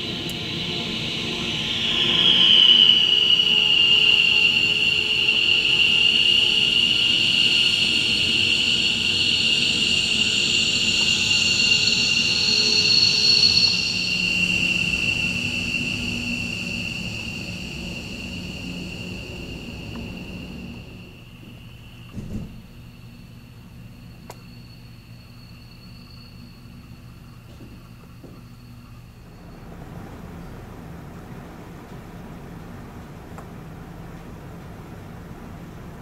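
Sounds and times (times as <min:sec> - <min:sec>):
jet engine turbine whine: 0:00.0 - 0:36.0.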